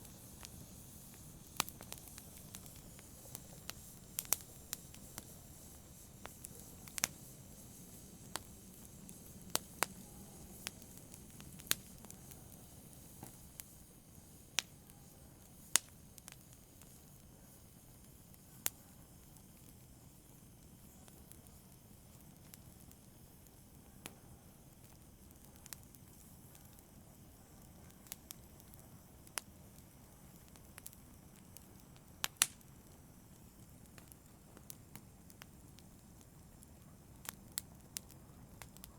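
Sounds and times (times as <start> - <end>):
faint steady hiss: 0.0 - 38.9
wood fire crackling: 0.0 - 38.9.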